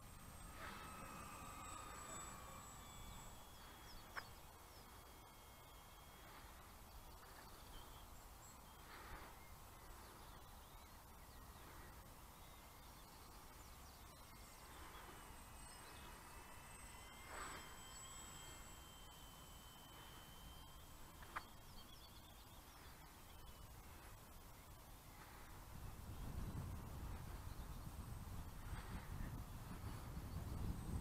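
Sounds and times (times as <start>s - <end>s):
distant bird calls: 0.0s - 31.0s.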